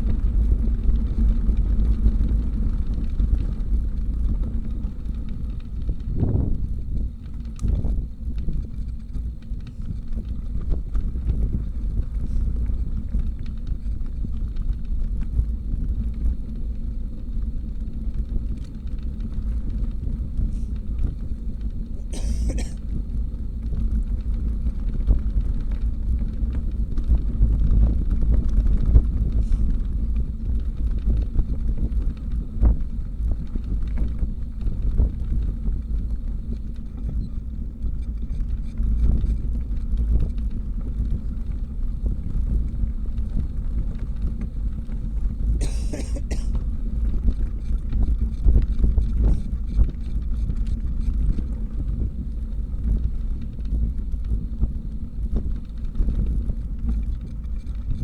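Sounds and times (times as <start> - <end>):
wind noise on microphone: 0.0 - 58.0.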